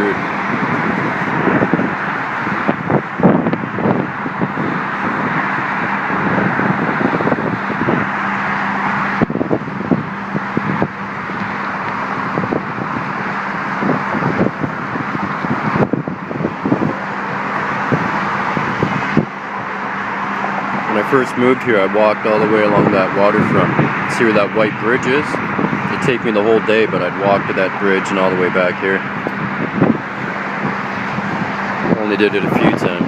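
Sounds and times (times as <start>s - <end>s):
road traffic noise: 0.0s - 33.0s
wind buffeting microphone: 0.0s - 33.0s.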